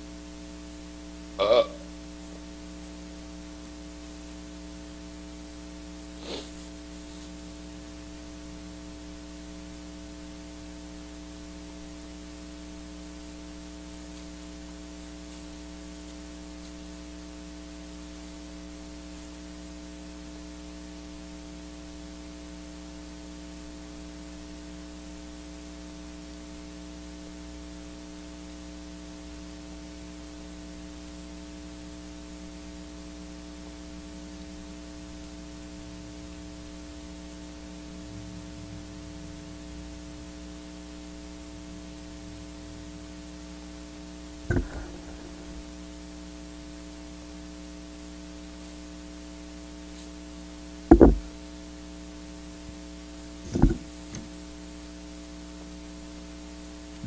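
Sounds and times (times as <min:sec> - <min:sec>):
electrical hum with hiss: 0:00.0 - 0:57.0.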